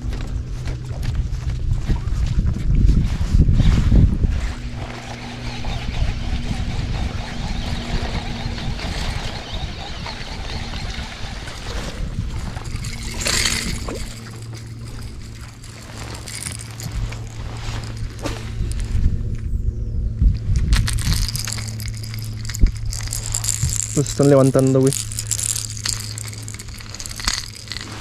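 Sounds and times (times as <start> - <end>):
boat motor humming: 0.0 - 2.8, 4.2 - 28.0
heavy low rumble: 0.0 - 28.0
rushing background noise: 0.0 - 28.0.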